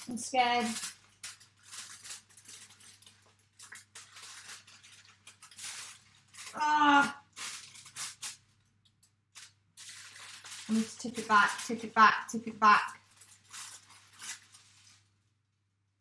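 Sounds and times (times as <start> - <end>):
aluminium foil crinkling: 0.0 - 15.4.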